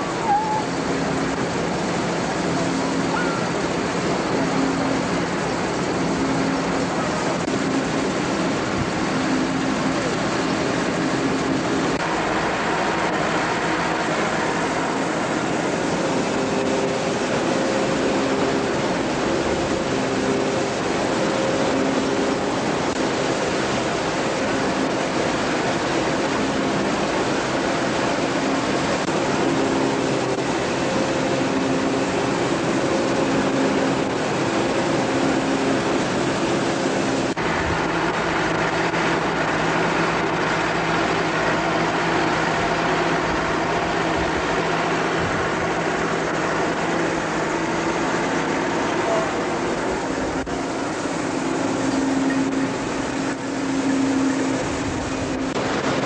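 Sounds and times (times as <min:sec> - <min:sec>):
threshing machine running: 0:00.0 - 0:56.0.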